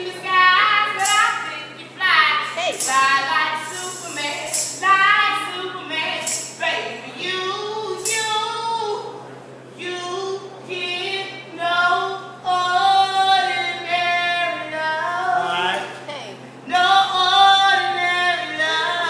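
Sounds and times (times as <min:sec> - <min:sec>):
woman singing: 0:00.0 - 0:09.2, 0:09.8 - 0:19.0.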